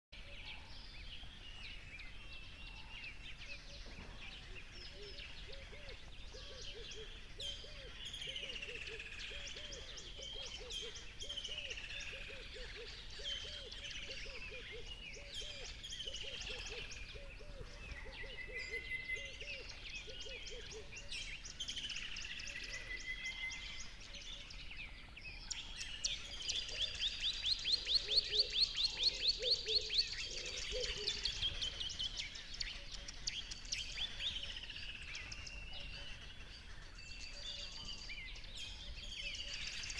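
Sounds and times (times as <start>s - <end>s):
birds singing and chirping: 0.2s - 39.9s.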